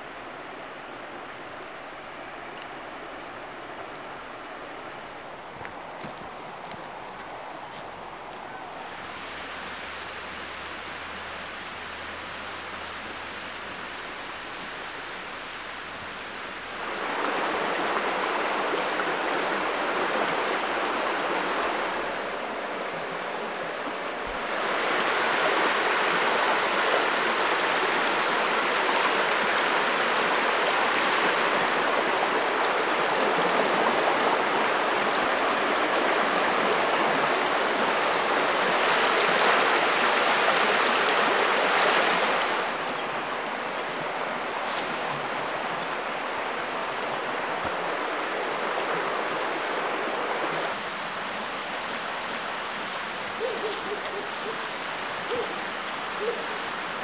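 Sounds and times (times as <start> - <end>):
river rushing over stones: 0.0 - 57.0.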